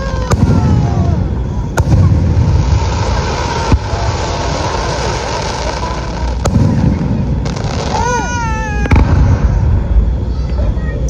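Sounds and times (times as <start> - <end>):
sharp firework cracks: 0.0 - 9.9
fireworks booming: 0.0 - 11.0
whistling firework tone: 0.0 - 11.0.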